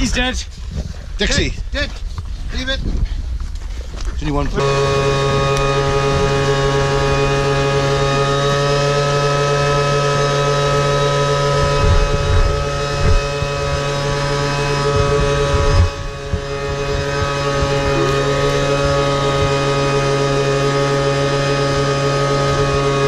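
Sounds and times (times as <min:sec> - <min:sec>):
small engine running: 0:04.2 - 0:23.0.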